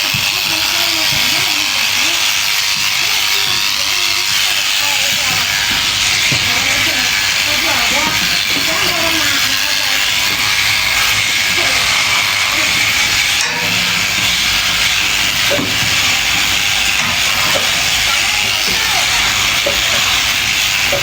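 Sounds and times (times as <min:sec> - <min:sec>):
electric sheep shears hissing: 0:00.0 - 0:21.0.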